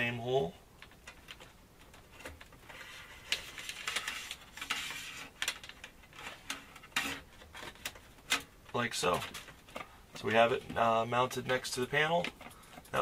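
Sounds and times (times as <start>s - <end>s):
wires rustling and scraping: 0.1s - 13.0s.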